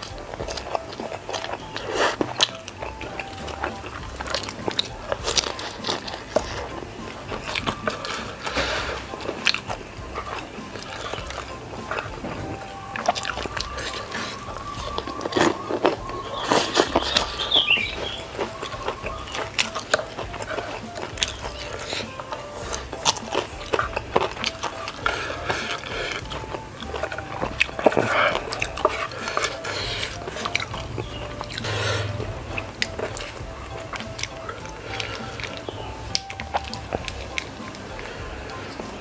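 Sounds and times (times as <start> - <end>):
chewing and slurping noodles: 0.0 - 39.0
wet mouth clicks: 0.0 - 39.0.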